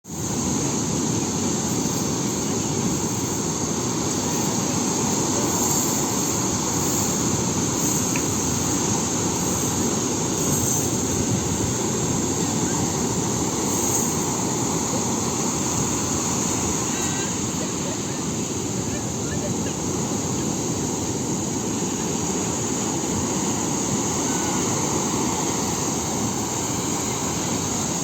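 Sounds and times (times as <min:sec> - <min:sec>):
sea waves breaking: 0:00.0 - 0:28.0.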